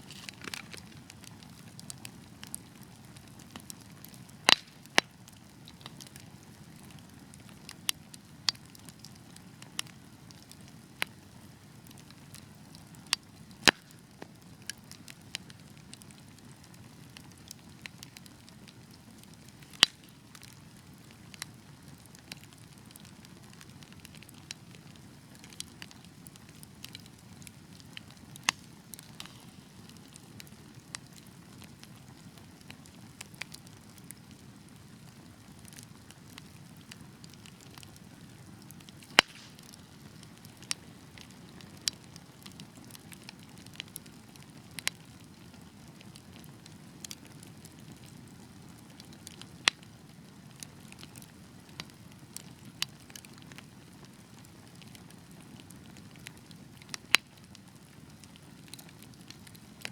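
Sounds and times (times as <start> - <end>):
pops and snaps from burning logs: 0.0 - 59.9
wood fire crackling: 0.0 - 59.9.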